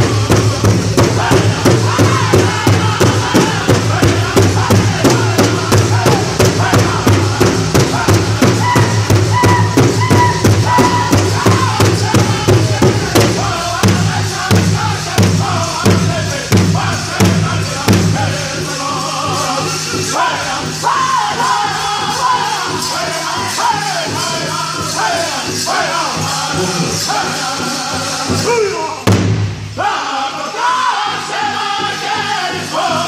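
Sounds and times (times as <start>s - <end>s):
men singing in chorus: 0.0s - 29.0s, 29.7s - 33.0s
large drum steady beat: 0.0s - 29.8s.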